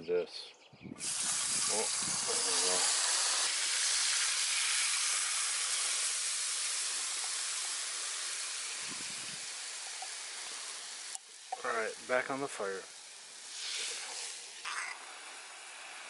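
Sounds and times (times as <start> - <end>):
liquid hissing in hot skillet: 1.0 - 16.0.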